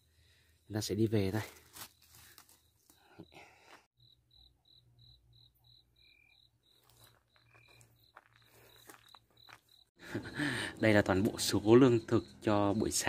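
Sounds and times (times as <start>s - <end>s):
cricket chirping: 0.1s - 13.0s.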